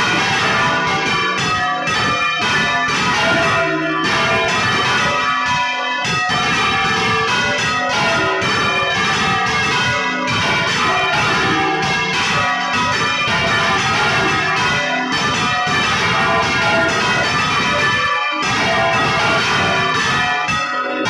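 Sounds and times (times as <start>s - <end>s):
church bells pealing: 0.0s - 21.0s.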